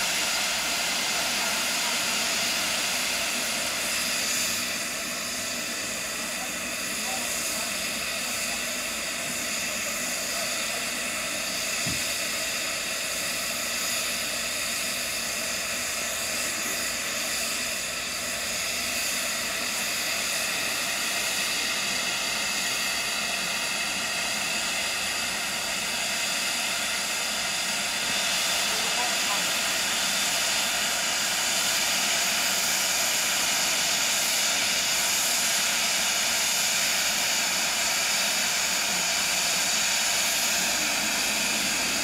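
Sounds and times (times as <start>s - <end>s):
steam hissing from locomotive: 0.0s - 42.0s.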